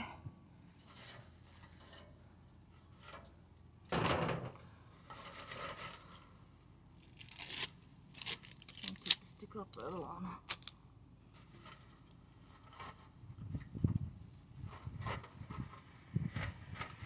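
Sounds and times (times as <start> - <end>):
rustling and scraping of parts: 0.7 - 17.0.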